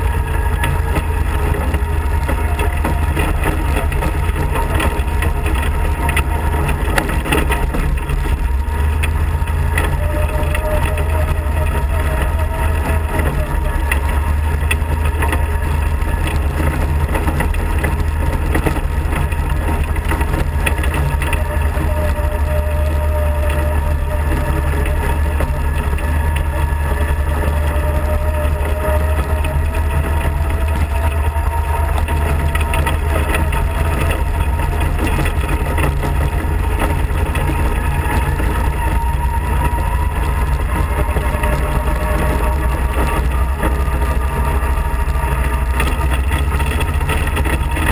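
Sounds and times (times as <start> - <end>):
faint engine whine: 0.0 - 47.9
kart engine rumbling: 0.0 - 47.9.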